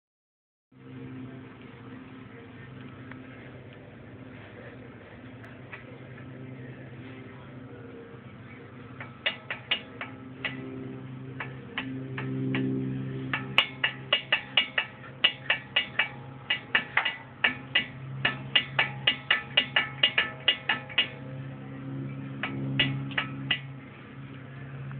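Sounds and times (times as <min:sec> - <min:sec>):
steady low hum: 0:00.7 - 0:24.9.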